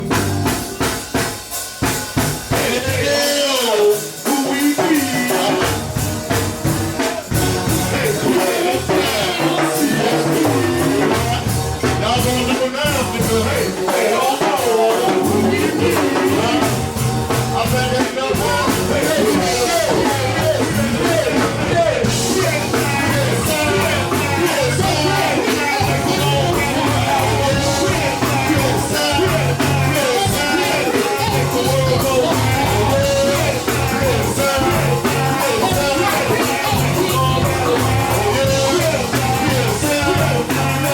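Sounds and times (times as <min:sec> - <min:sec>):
bass line: 0:00.0 - 0:03.4, 0:04.6 - 0:13.9, 0:14.5 - 0:40.9
drum kit beat: 0:00.0 - 0:40.9.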